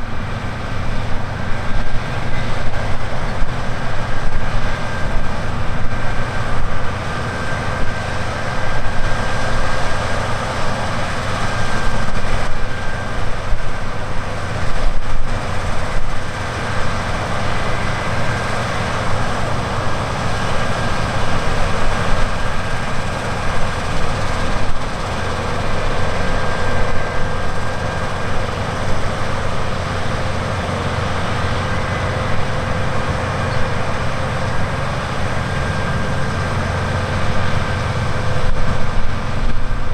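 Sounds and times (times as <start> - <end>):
harvest machinery engine drone: 0.0 - 39.9
steady high whine: 0.0 - 39.9.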